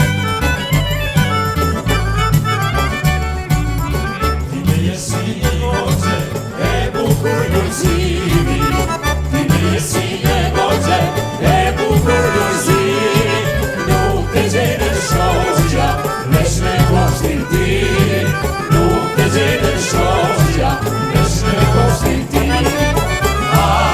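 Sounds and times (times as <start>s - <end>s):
accordion melody: 0.0s - 23.9s
folk music: 0.0s - 23.9s
steady bass beat: 0.0s - 23.9s.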